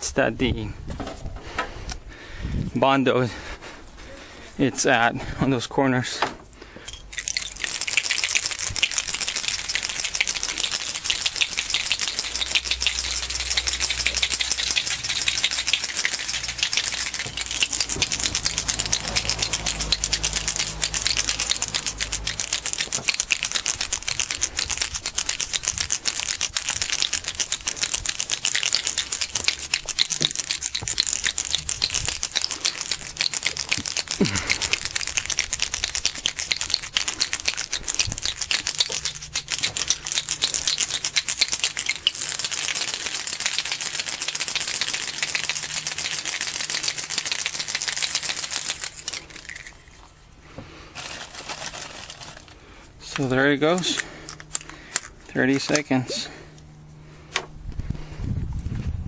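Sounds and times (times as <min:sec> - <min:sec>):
mixing ball rattling in bottle: 0:06.8 - 0:50.2, 0:50.8 - 0:56.5.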